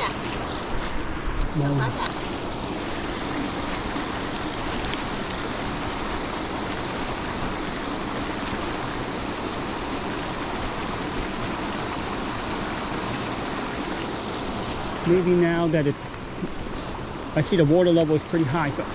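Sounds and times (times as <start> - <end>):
creek rushing: 0.0 - 18.9
rain falling: 0.0 - 18.9.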